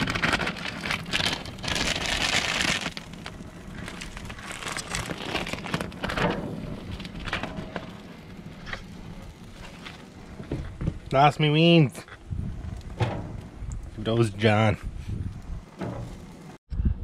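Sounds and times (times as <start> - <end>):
hot dogs sizzling on a grill: 0.0 - 16.6.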